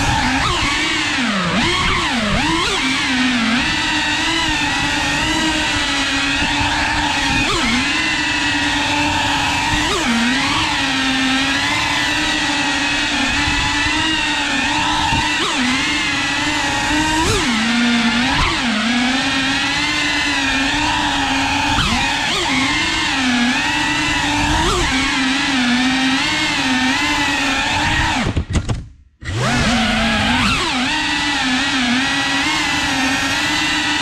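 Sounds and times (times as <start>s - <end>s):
drone motors buzzing: 0.0s - 28.5s, 29.2s - 34.0s.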